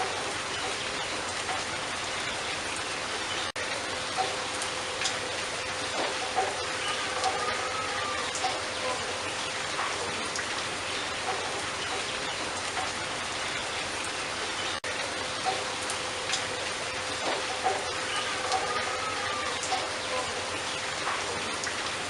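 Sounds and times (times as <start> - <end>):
drip-like ticks: 0.0 - 22.0
steady rain: 0.0 - 22.0.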